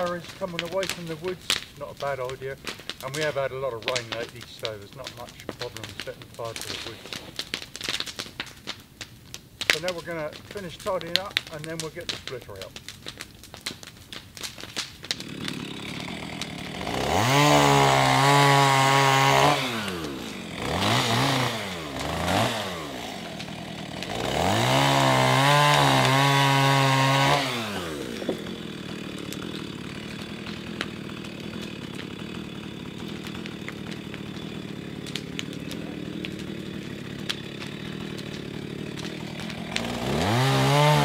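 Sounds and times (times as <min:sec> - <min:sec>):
chainsaw idling and revving: 0:00.0 - 0:08.7, 0:09.6 - 0:41.0.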